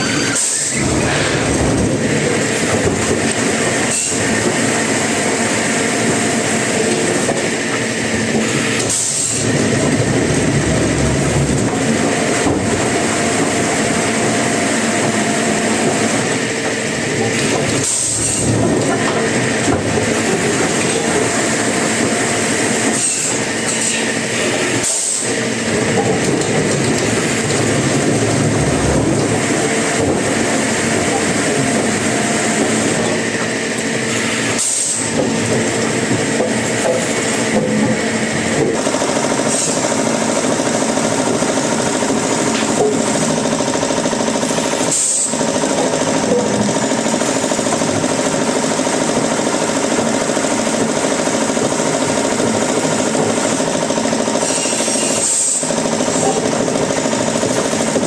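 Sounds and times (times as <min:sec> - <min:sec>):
sawmill machinery clatter: 0:00.0 - 0:58.0.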